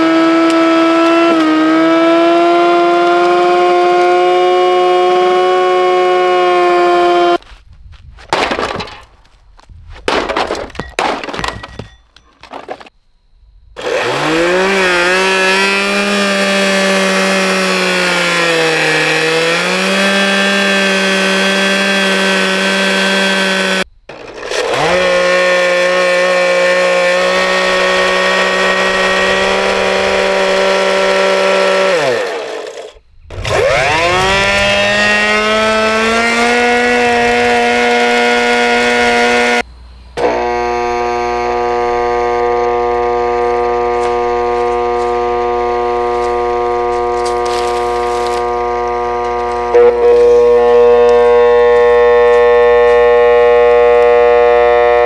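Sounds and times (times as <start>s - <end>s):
vacuum cleaner motor whining: 0.0s - 7.4s, 13.8s - 39.6s, 40.2s - 55.0s.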